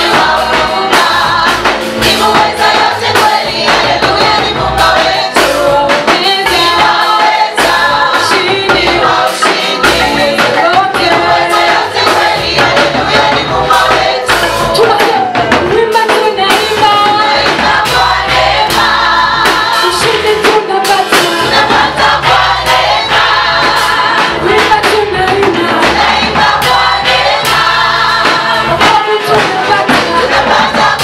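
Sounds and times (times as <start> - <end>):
band with beat and bass: 0.0 - 31.0
gospel choir singing: 0.0 - 31.0.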